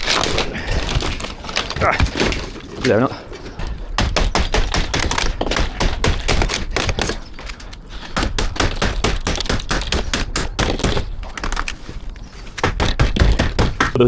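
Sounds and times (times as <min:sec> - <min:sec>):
brittle roof cracking and snapping: 0:00.0 - 0:14.0.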